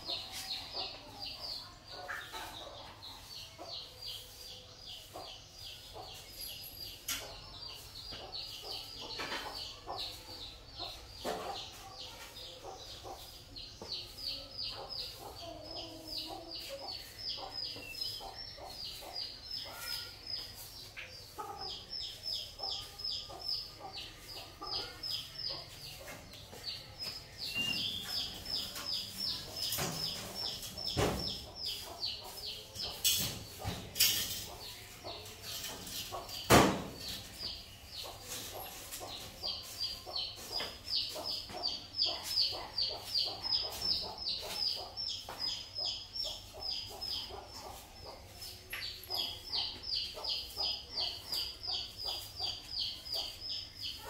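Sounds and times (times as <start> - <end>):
small bird chirping: 0.0 - 54.0.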